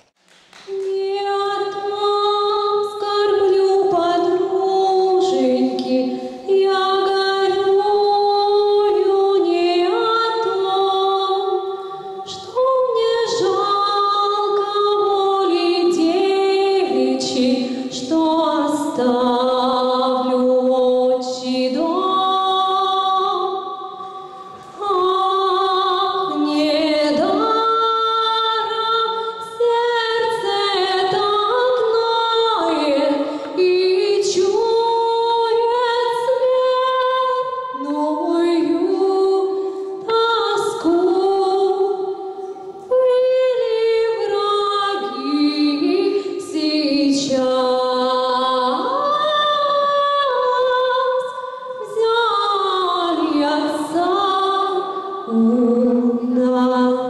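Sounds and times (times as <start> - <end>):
woman singing a cappella: 0.7 - 57.0.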